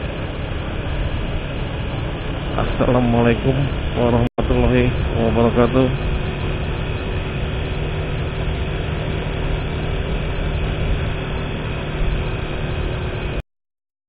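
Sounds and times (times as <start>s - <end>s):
road and wind noise: 0.0s - 13.4s
vehicle engine drone: 0.0s - 13.4s.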